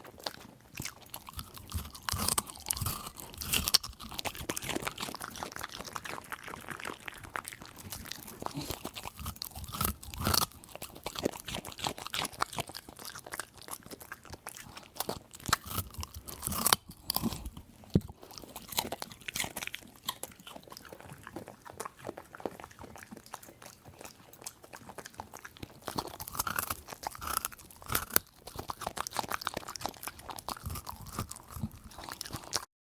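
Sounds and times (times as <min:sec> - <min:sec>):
dog crunching carrot: 0:00.0 - 0:32.7.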